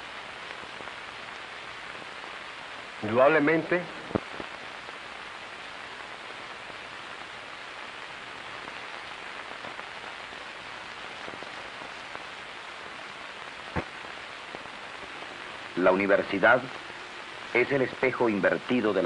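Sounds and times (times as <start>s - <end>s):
film soundtrack hiss and crackle: 0.0s - 19.0s.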